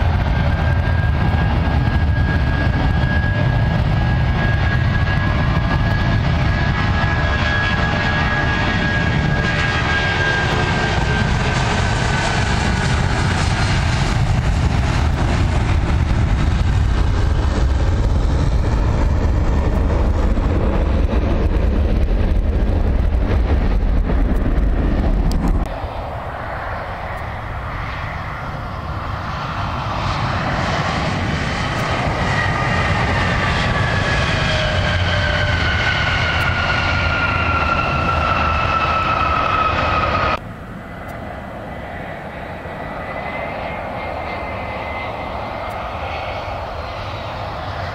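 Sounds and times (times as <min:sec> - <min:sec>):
jet engine low rumble: 0:00.0 - 0:47.9
passing jet engine whine: 0:00.0 - 0:47.9.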